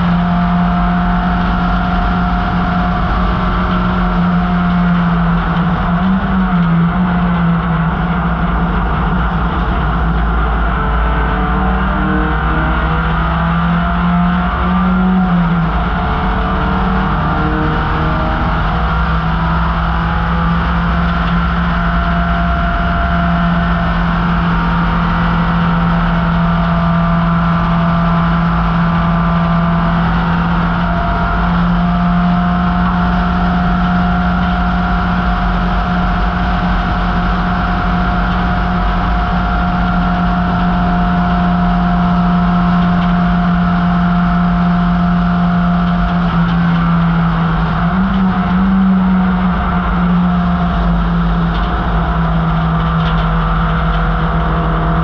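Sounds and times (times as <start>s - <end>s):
race car engine at high speed: 0.0s - 55.0s.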